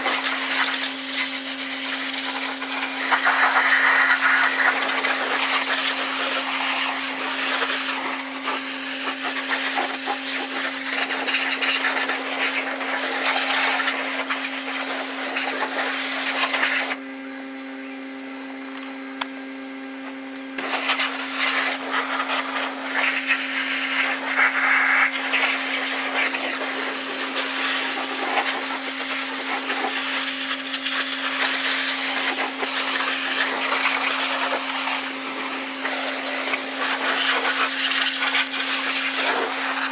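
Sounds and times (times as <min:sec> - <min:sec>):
pressure washer spraying: 0:00.0 - 0:17.0, 0:20.6 - 0:39.9.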